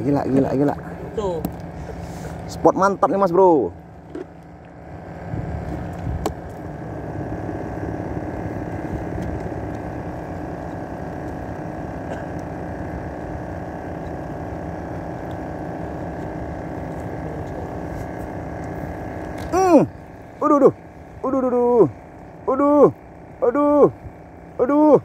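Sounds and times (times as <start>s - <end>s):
boat engine humming: 0.0s - 25.0s.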